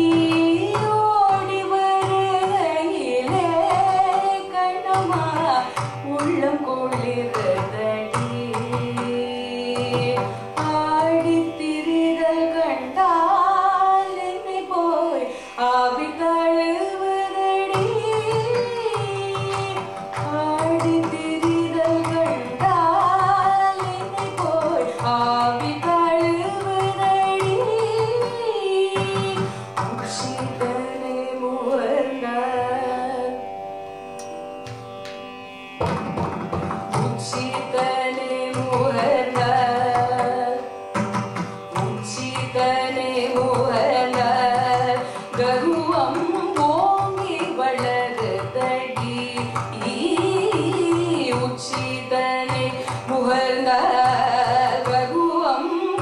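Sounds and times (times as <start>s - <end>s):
mridangam drum strokes: 0.0s - 33.1s, 34.2s - 56.0s
woman singing ornamented melody: 0.0s - 33.5s, 37.0s - 40.8s, 41.7s - 56.0s.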